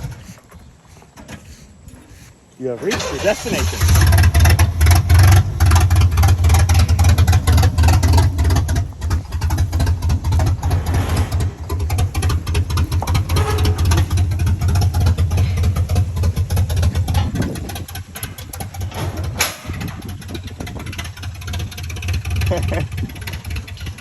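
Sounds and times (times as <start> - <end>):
truck engine rough exhaust: 0.0 - 24.0.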